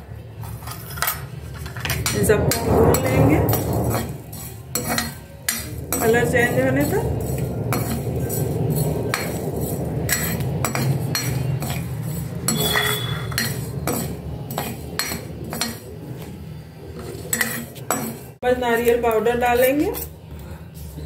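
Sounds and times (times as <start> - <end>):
metal ladle scraping metal pan: 0.4 - 18.4.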